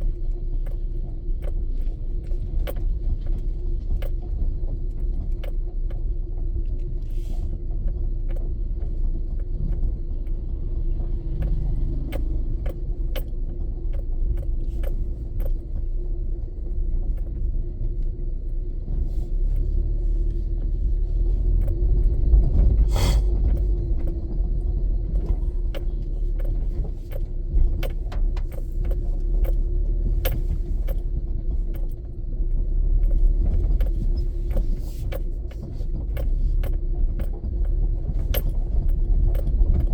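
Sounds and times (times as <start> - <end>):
small clicks and rattles: 0.0 - 39.9
vehicle road rumble: 0.0 - 39.9.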